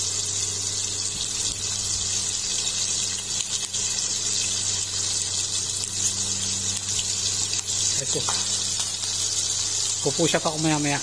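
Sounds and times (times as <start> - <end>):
low steady hum: 0.0 - 10.2
fish sizzling in hot oil: 0.0 - 11.0.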